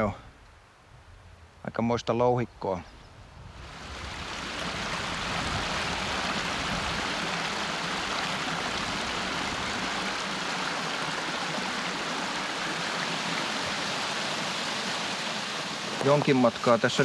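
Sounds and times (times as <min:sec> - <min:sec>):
stream of rushing water: 0:02.6 - 0:17.0.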